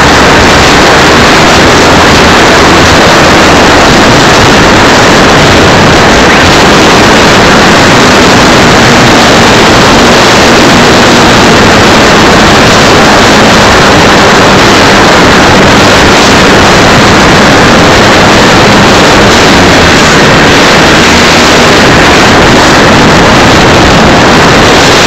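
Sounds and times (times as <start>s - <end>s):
loud steady engine: 0.0s - 25.0s
wind noise: 0.0s - 25.0s.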